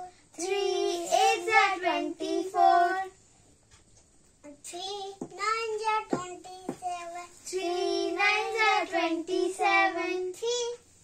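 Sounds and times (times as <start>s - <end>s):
child chanting sing-song: 0.0s - 3.2s, 4.4s - 11.0s.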